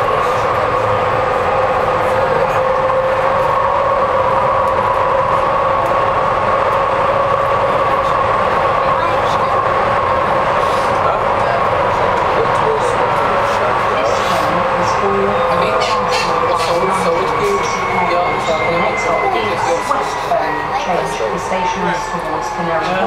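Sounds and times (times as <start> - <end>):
train rumble with high whine: 0.0 - 23.0.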